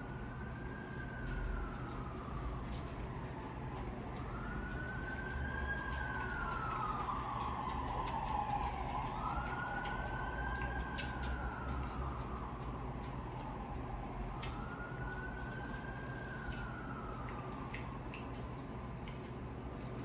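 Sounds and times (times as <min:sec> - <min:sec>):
distant siren wailing: 0:00.0 - 0:19.9
eating and handling clicks: 0:01.8 - 0:20.0.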